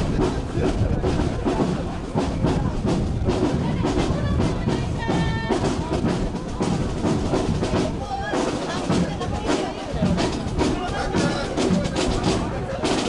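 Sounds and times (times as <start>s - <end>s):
drums beating: 0.0s - 13.0s
parade band playing: 0.0s - 13.0s.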